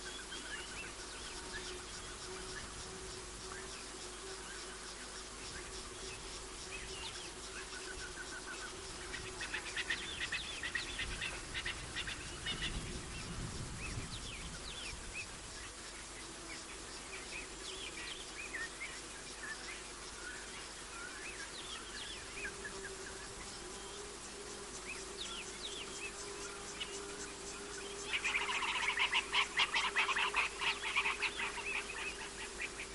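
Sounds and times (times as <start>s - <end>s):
rapid ticking insect trill: 0.0s - 32.9s.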